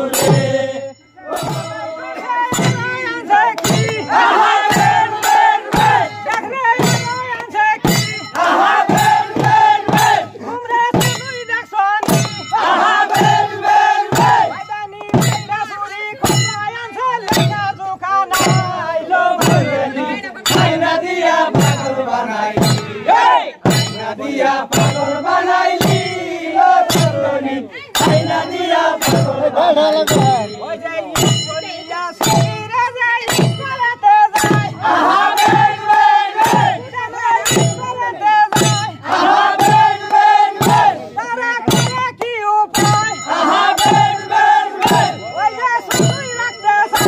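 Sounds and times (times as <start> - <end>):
men singing and chanting: 0.0 - 47.0
sharp steady beat: 0.0 - 47.0.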